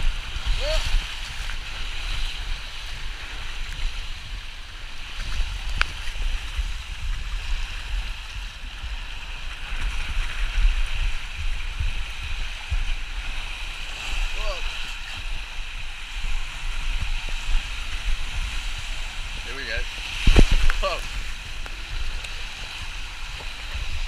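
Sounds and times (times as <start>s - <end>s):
water rushing down a tube slide: 0.0s - 24.0s.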